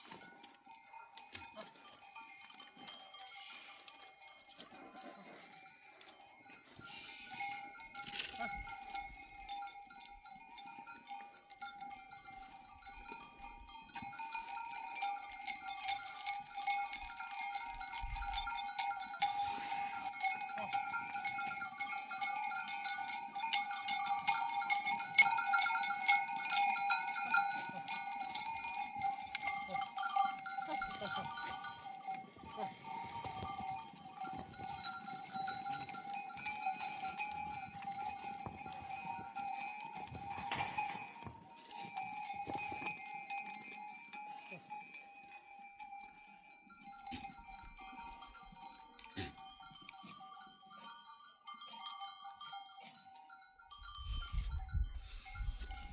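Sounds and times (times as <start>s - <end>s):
goat bells clinking: 0.0s - 55.9s.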